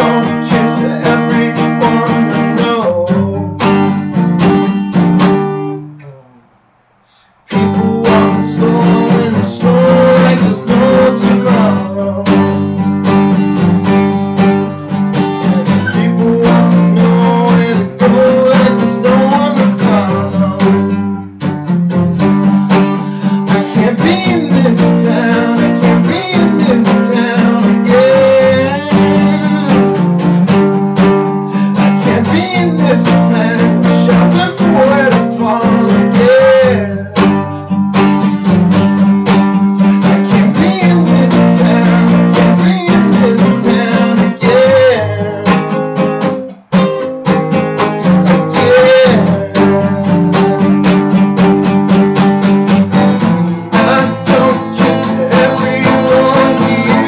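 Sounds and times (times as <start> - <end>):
man singing: 0.0 - 4.2, 7.1 - 13.3, 14.4 - 21.2, 22.1 - 57.0
strummed acoustic guitar: 0.0 - 57.0.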